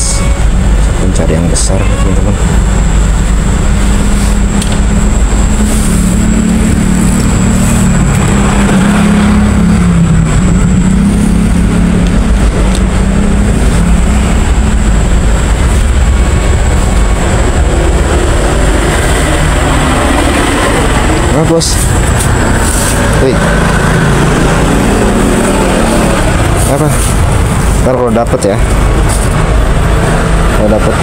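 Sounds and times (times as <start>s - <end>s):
motor engine low rumble: 0.0s - 31.0s
thin high whine: 0.0s - 31.0s.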